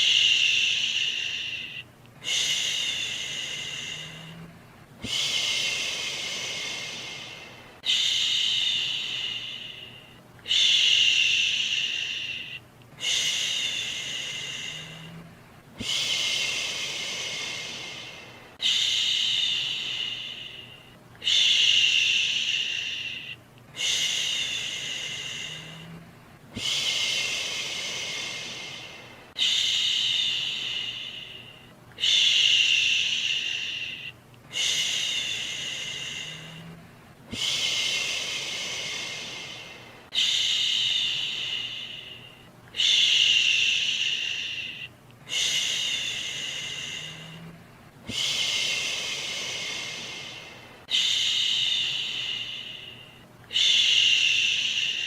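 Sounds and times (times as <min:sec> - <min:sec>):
person shushing: 0:00.0 - 0:26.0, 0:26.6 - 0:55.0.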